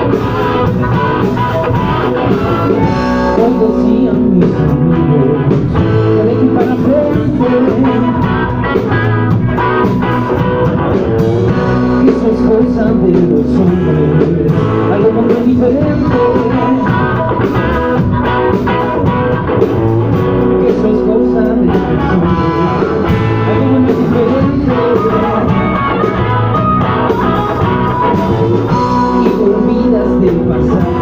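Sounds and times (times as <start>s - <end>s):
rock music with electric guitar: 0.0s - 31.0s.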